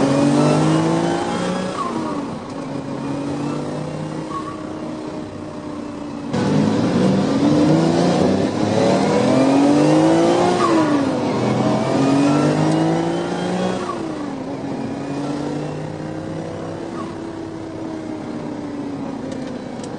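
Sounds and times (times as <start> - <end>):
car engine accelerating hard: 0.0 - 19.9.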